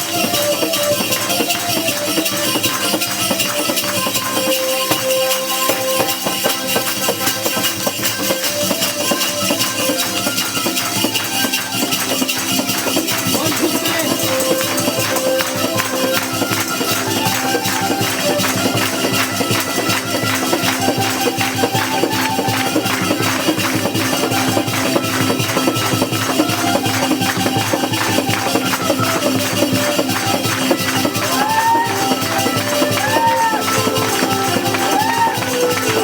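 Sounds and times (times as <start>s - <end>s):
held melodic tones: 0.0s - 36.0s
shaken percussion beat: 0.0s - 36.0s.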